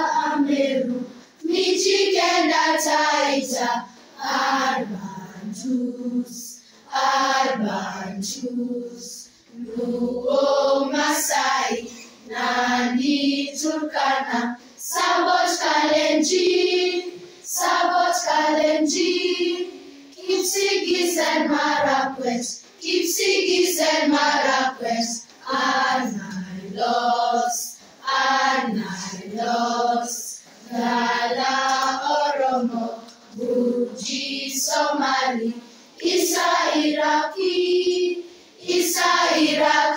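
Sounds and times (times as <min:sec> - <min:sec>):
group of voices singing: 0:00.0 - 0:39.9.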